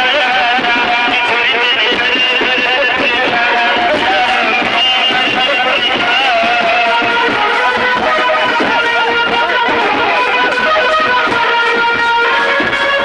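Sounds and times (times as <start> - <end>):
plucked guitar dance music: 0.0 - 13.0.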